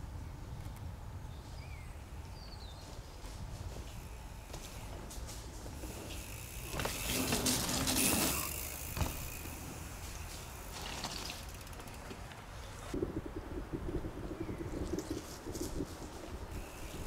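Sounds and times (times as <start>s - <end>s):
bike tyres on dirt trail: 1.3s - 13.0s, 14.0s - 17.0s.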